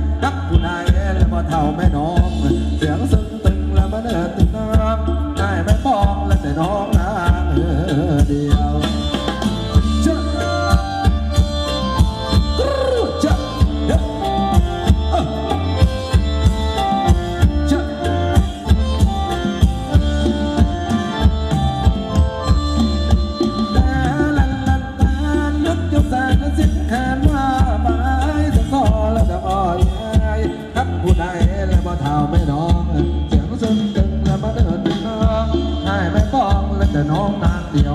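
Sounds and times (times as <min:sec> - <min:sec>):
live band dance music over speakers: 0:00.0 - 0:37.9.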